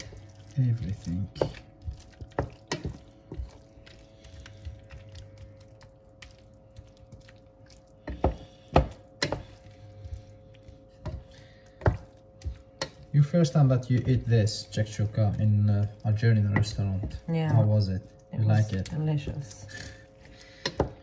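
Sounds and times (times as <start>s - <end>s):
spatula stirring in frying pan: 0.0s - 6.3s, 7.0s - 17.8s
faint steady hum: 0.0s - 21.0s.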